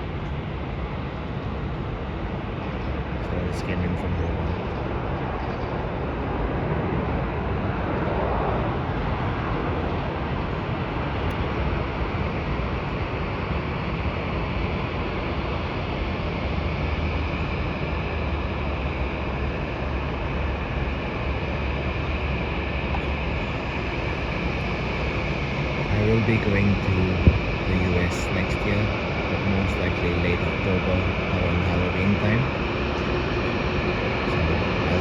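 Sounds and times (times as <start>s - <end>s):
faint high whine: 0.0s - 35.0s
jet engines roaring: 0.0s - 35.0s.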